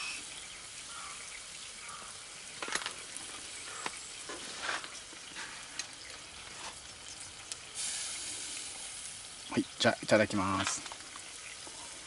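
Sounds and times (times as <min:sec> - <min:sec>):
meat sizzling on grill: 0:00.0 - 0:12.0.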